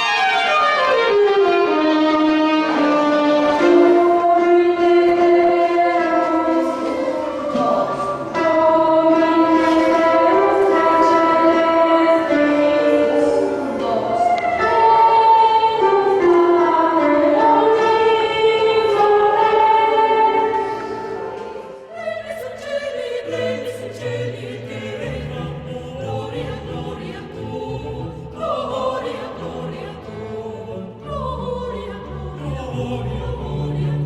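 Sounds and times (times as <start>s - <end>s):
choir singing: 0.0s - 34.0s
string orchestra: 0.0s - 34.0s.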